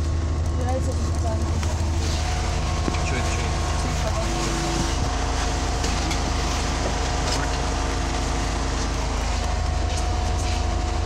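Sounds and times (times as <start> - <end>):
bus engine running: 0.0 - 11.0
tyre and road noise: 0.0 - 11.0.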